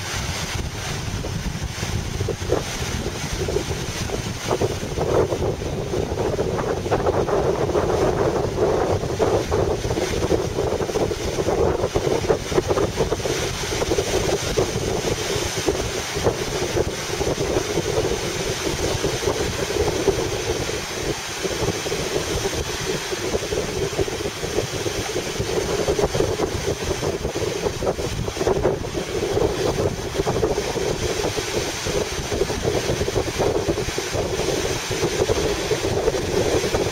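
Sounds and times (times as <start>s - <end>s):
lake waves washing: 0.0s - 36.9s
wind buffeting microphone: 0.0s - 36.9s.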